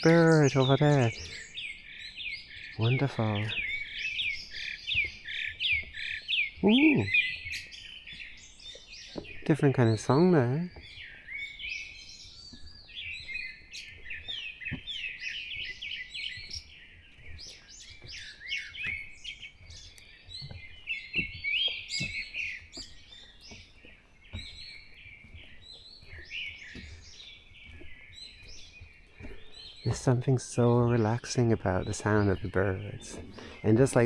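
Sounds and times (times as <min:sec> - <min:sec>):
birds singing and chirping: 0:00.0 - 0:34.0.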